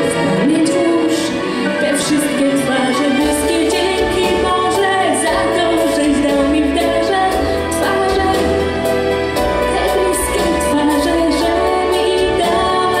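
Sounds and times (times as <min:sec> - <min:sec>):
instrumental accompaniment: 0:00.0 - 0:13.0
woman singing: 0:00.0 - 0:13.0.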